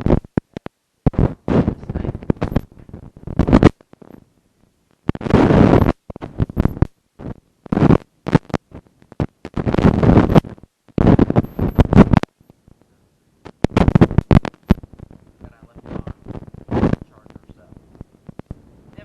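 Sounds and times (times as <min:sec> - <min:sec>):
microphone rumbling and crackling: 0:00.0 - 0:19.0.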